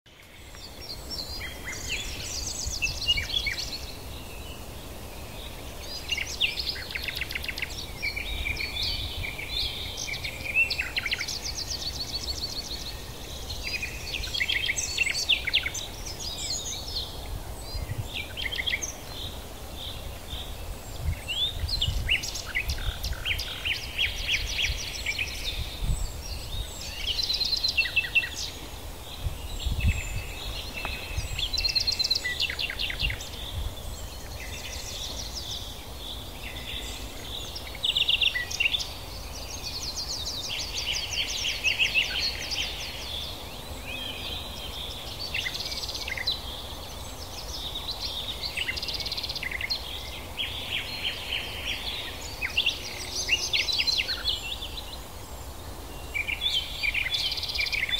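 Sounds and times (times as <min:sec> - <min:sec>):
small birds singing and trilling: 0:00.1 - 0:57.9.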